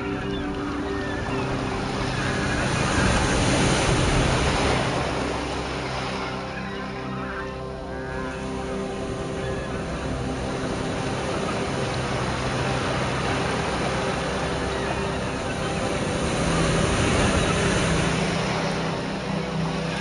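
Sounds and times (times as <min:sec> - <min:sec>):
sea waves breaking on beach: 0:00.0 - 0:20.0.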